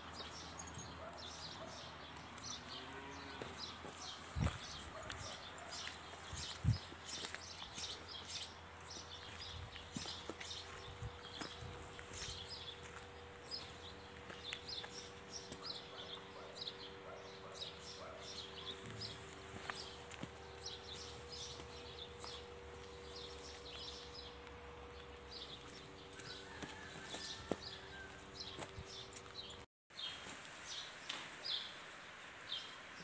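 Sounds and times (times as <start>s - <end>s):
small birds chirping: 0.0s - 31.8s.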